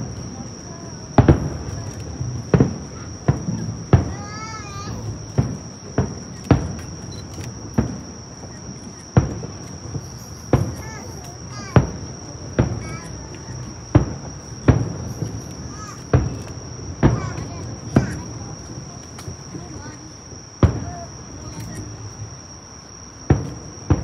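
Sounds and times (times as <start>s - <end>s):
distant firework bangs: 0.0s - 24.0s
insects chirring: 0.0s - 24.0s.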